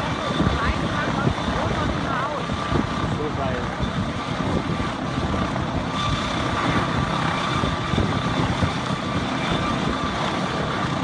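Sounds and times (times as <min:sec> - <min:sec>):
helicopter rotor thrum: 0:00.0 - 0:11.0
high turbine whine: 0:00.0 - 0:11.0.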